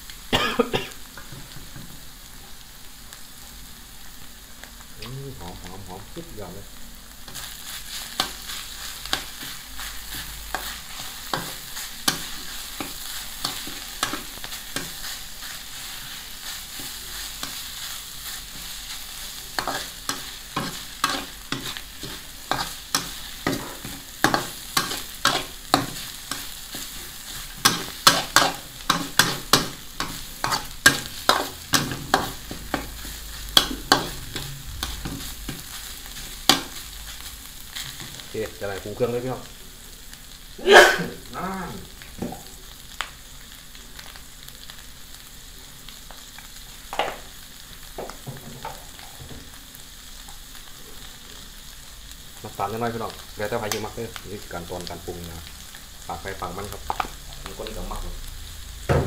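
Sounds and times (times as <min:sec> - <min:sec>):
frying sizzle: 0:00.0 - 0:59.0.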